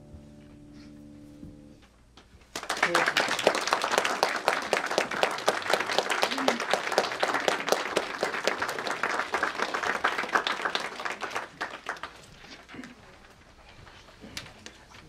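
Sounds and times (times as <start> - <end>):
audience applauding: 2.5 - 14.7.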